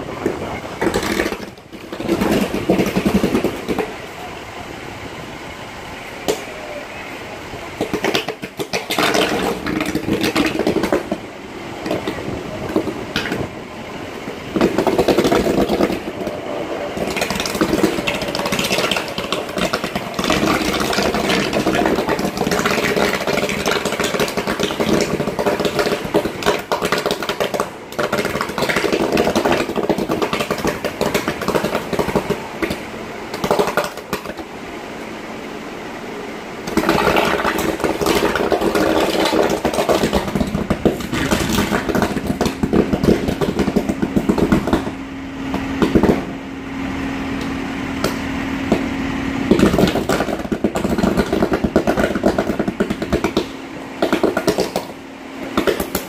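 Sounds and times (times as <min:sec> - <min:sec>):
cables burning sputtering and crackling: 0:00.0 - 0:04.2, 0:07.4 - 0:34.5, 0:36.6 - 0:46.4, 0:47.4 - 0:56.0.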